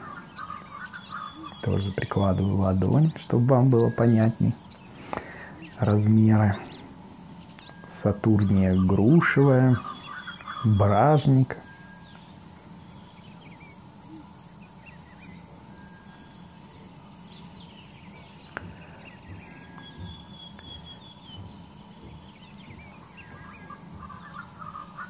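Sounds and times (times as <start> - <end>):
high chirping calls: 0.0 - 25.0
steady background hum: 0.0 - 25.0.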